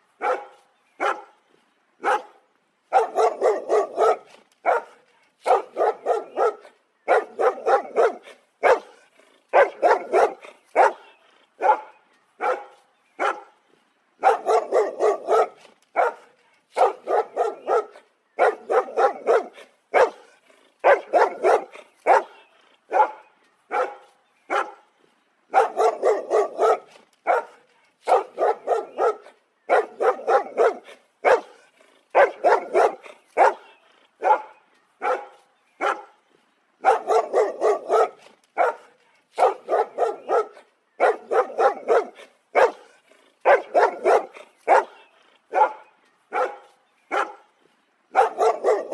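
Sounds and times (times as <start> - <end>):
dog barking: 0.2 - 1.4, 2.0 - 13.6, 14.2 - 24.8, 25.5 - 36.2, 36.8 - 47.5, 48.1 - 48.9.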